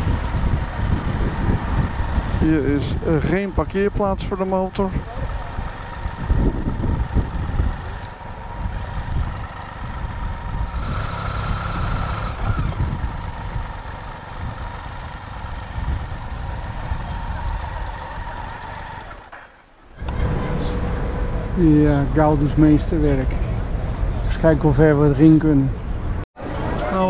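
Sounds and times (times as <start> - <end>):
motorcycle engine and road rumble: 0.0 - 27.0.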